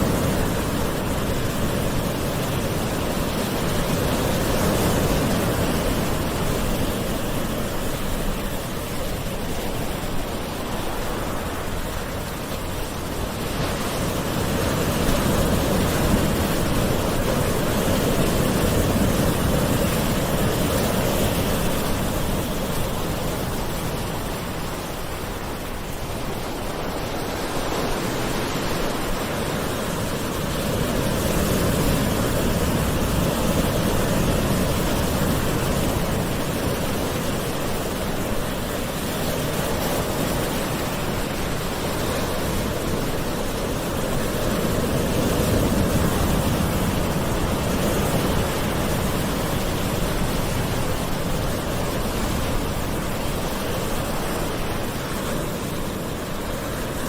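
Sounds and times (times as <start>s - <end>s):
gentle ocean waves washing ashore: 0.0s - 57.0s.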